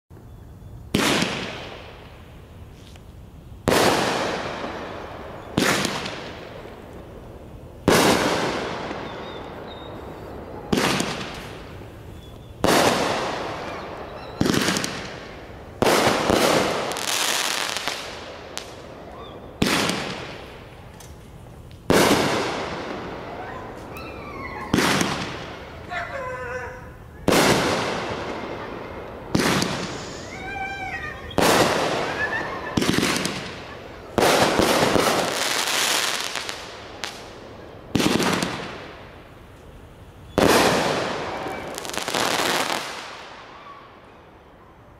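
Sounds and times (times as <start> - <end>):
crackling hiss: 0.2 - 44.9
fireworks cake shots: 3.7 - 7.2, 7.8 - 39.1, 40.2 - 43.4.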